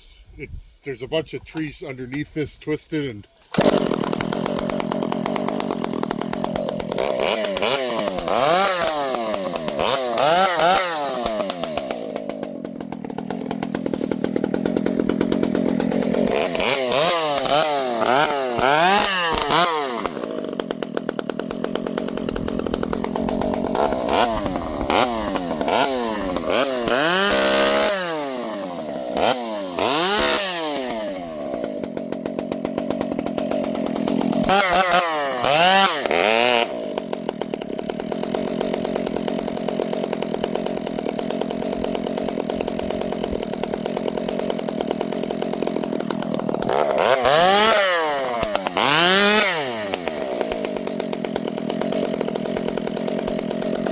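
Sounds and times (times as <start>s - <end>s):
chainsaw revving: 1.6s - 53.9s.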